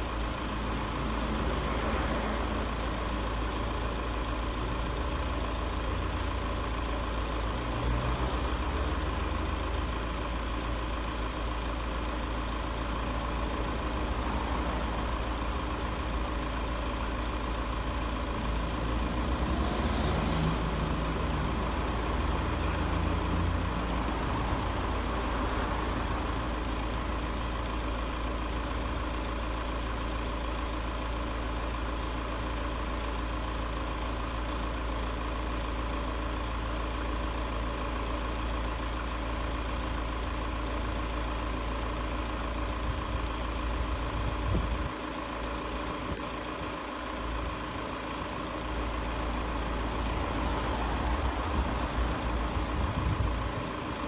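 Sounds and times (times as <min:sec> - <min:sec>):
diesel van engine idling: 0:00.0 - 0:54.0.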